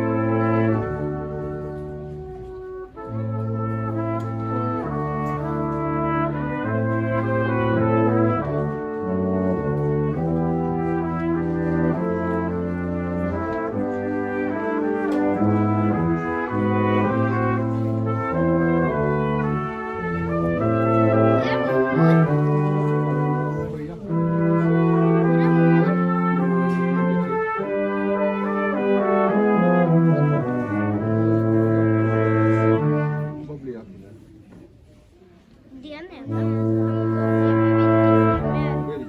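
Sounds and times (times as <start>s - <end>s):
brass quartet playing chords: 0.0s - 33.6s, 36.2s - 39.0s.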